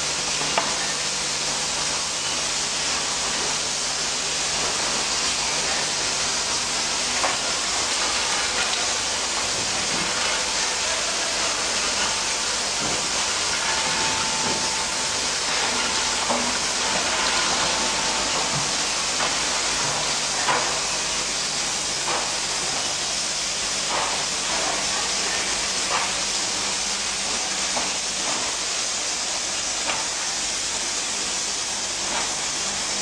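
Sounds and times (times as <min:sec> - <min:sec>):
factory machines hissing din: 0:00.0 - 0:33.0.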